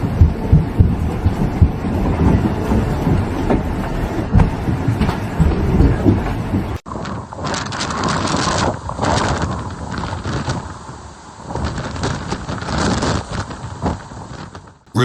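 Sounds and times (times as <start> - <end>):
storm wind buffeting microphone: 0.0 - 15.0
wind and rain: 0.0 - 15.0.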